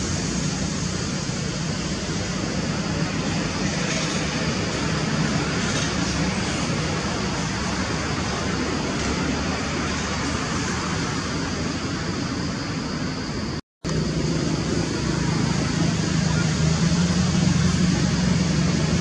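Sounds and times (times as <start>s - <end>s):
rushing background noise: 0.0s - 19.0s.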